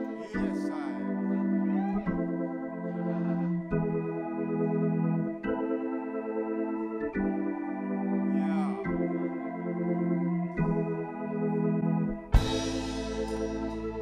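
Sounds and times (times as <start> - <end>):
sustained organ chords: 0.0 - 14.0.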